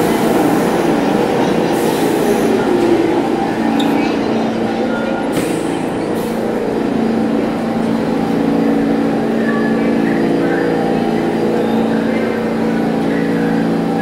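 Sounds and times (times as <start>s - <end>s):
train equipment humming: 0.0s - 14.0s.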